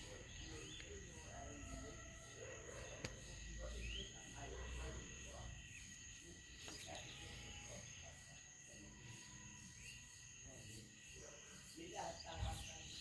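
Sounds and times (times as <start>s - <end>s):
faint high insect chirring: 0.0s - 13.0s.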